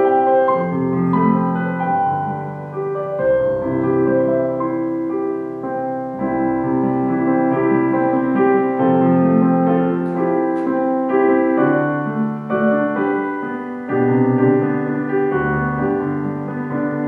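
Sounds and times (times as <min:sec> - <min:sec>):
slow piano piece: 0:00.0 - 0:17.0.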